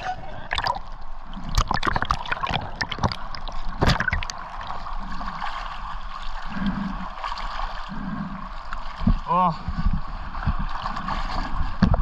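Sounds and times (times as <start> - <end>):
underwater current noise: 0.4 - 12.0.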